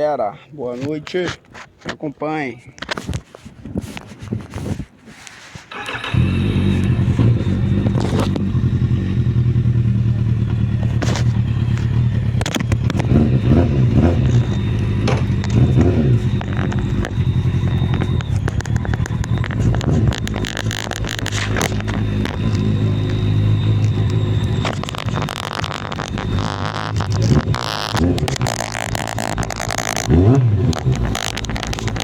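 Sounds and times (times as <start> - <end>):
motorcycle engine starting and revving: 5.7 - 32.0.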